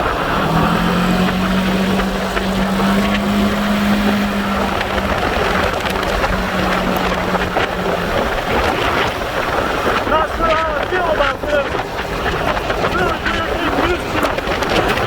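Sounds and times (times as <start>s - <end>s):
vehicle engine humming: 0.0s - 15.0s
wind noise on microphone: 0.0s - 15.0s.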